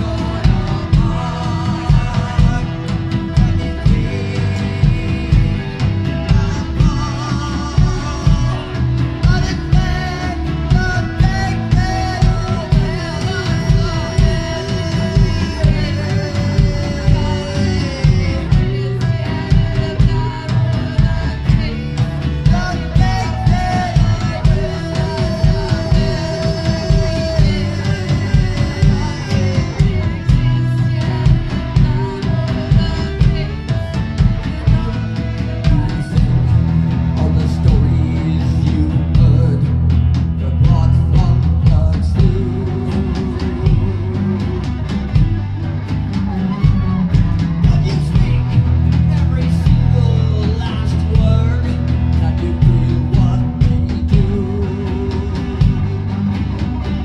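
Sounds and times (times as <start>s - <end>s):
drum kit beat: 0.0s - 57.0s
electric bass: 0.0s - 57.0s
person singing: 0.0s - 57.0s
strummed acoustic guitar: 0.0s - 57.0s.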